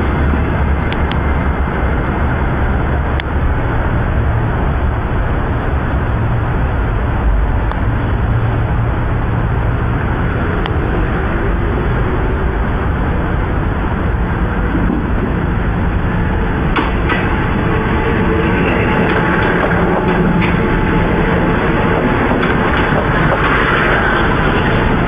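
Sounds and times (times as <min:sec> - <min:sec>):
diesel train rumbling: 0:00.0 - 0:25.0.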